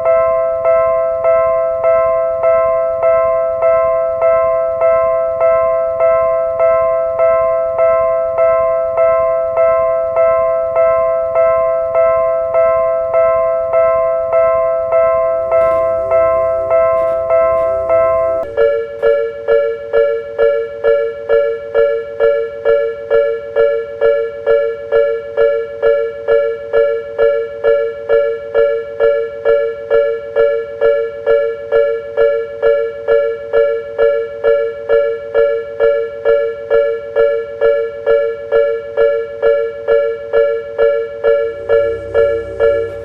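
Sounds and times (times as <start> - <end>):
level-crossing warning bell: 0.0 - 43.0.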